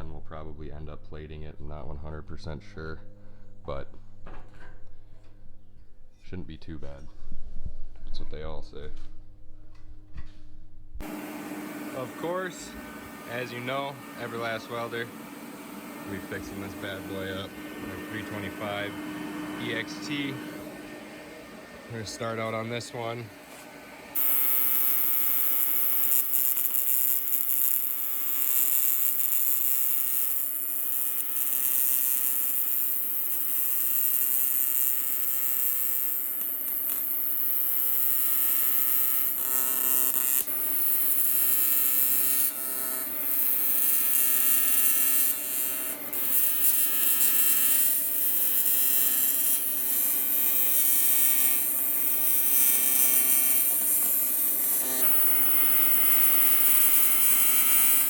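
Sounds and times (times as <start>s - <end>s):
welding arc buzzing and hissing: 11.0s - 58.0s.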